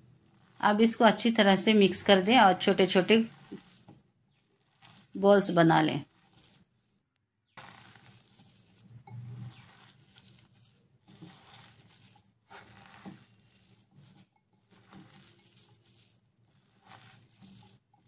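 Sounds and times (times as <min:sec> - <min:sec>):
hand squeezing minced meat: 0:00.0 - 0:00.9, 0:02.5 - 0:05.4, 0:06.0 - 0:18.0.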